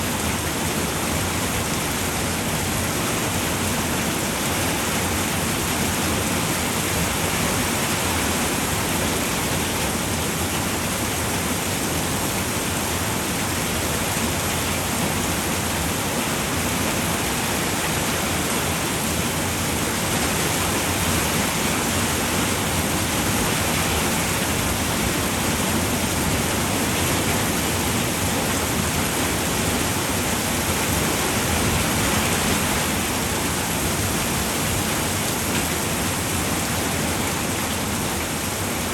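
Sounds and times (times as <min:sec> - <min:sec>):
rain on a roof: 0:00.0 - 0:38.9.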